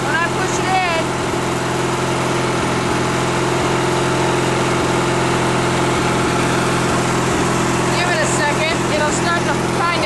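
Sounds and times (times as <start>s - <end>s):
riding mower engine running: 0.0s - 10.0s.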